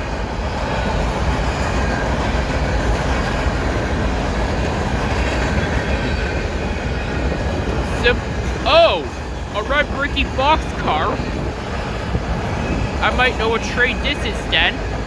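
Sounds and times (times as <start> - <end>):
freight train rolling past: 0.0 - 15.0
steel wheels on rails: 0.0 - 15.0.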